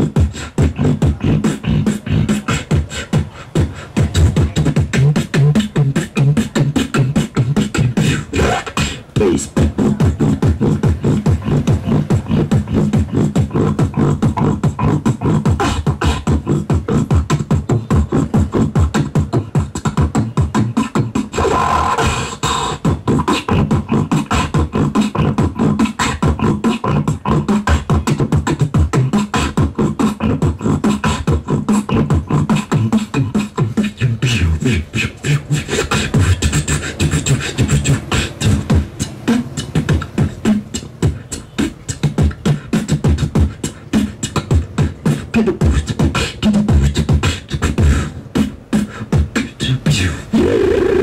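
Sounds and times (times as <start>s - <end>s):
beatboxing into a microphone: 0.0s - 51.0s.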